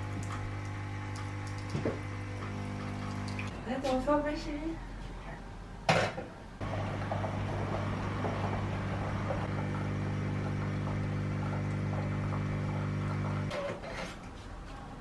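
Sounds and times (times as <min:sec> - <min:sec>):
appliance mains hum: 0:00.0 - 0:13.7.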